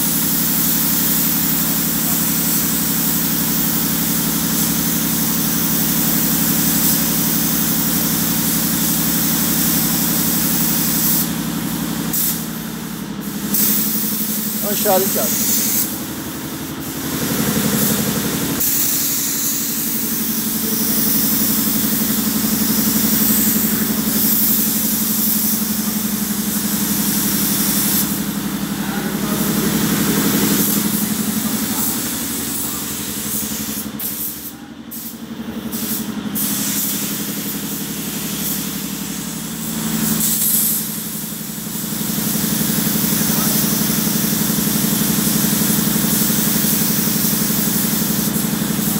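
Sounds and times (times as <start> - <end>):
spray gun hissing: 0.0 - 48.9.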